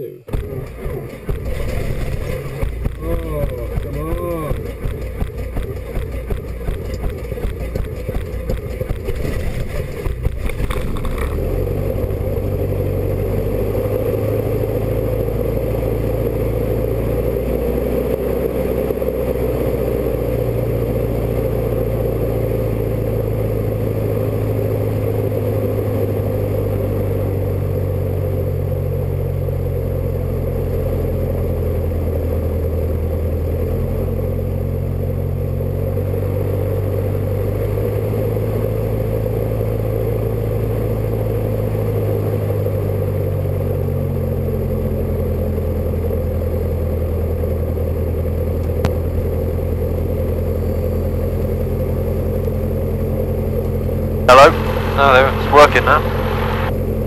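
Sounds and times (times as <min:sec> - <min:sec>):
aircraft engine and propeller idling: 0:00.0 - 0:57.0.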